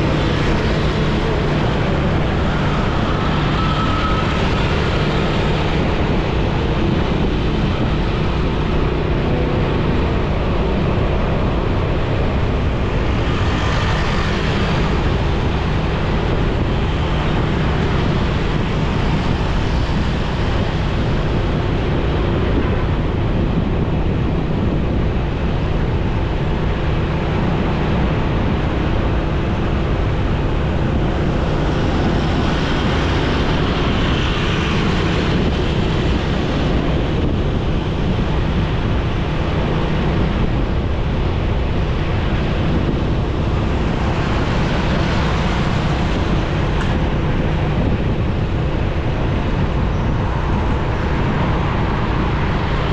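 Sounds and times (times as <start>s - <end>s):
motorcycle engine hum: 0.0s - 52.9s
wind rushing over microphone: 0.0s - 52.9s.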